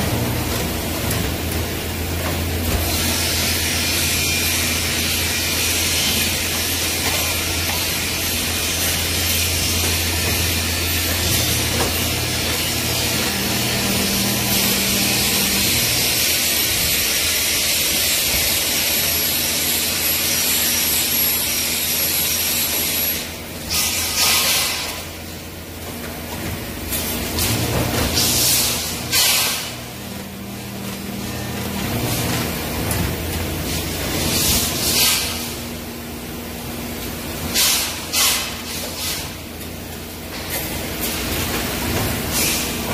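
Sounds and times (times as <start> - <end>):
welding machine humming and hissing: 0.0 - 42.9.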